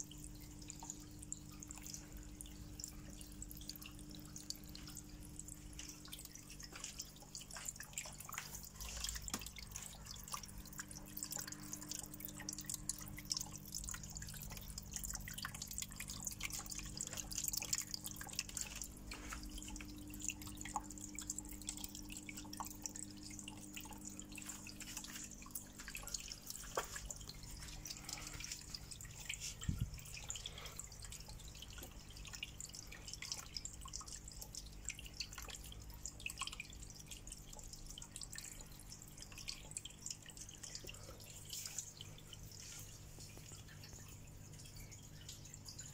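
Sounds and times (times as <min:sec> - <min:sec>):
low steady hum: 0:00.0 - 0:45.9
water trickling and splashing: 0:00.0 - 0:45.9.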